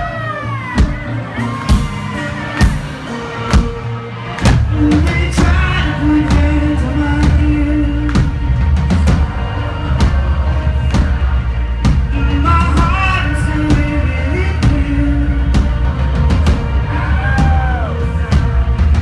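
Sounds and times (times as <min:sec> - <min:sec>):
heavy bass line: 0:00.0 - 0:19.0
reggae-rock band playing: 0:00.0 - 0:19.0.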